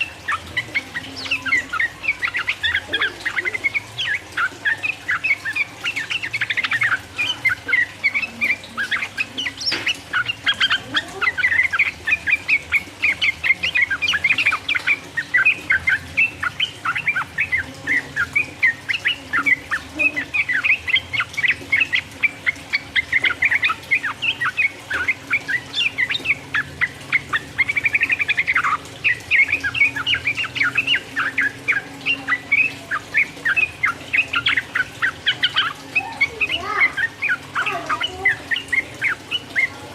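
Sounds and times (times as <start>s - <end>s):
bulbul singing rapid chattering notes: 0.0s - 39.9s.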